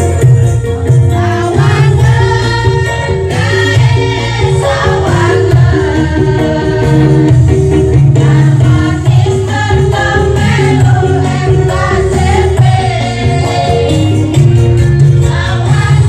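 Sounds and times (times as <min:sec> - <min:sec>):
backing music with bass line: 0:00.0 - 0:16.0
women singing together: 0:01.2 - 0:14.5, 0:15.2 - 0:16.0.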